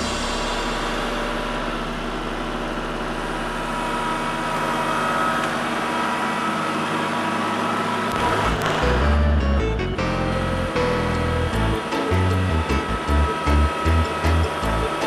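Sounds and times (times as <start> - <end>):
high whine: 0.0 - 15.0
tractor diesel engine running: 0.0 - 15.0.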